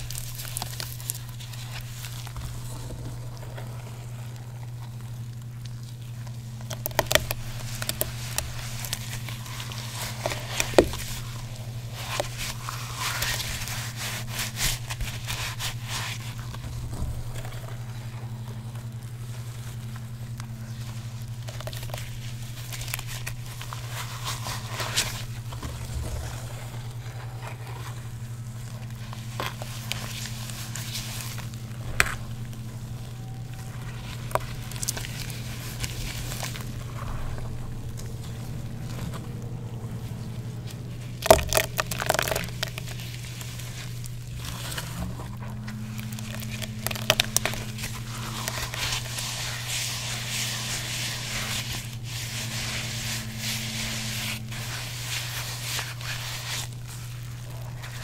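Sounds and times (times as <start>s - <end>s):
low hum: 0.0s - 58.0s
wet chalk crumbling by hand: 0.0s - 58.0s.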